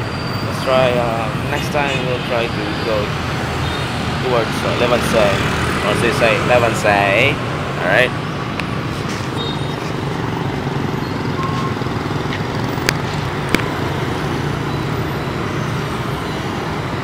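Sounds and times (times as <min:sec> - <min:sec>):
cars and motorbikes passing: 0:00.0 - 0:17.0.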